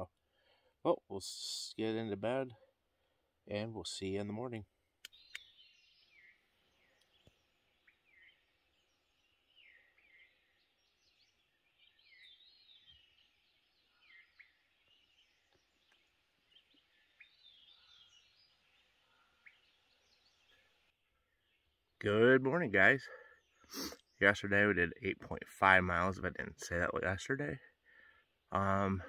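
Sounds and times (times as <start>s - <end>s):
birds calling: 1.7s - 29.0s.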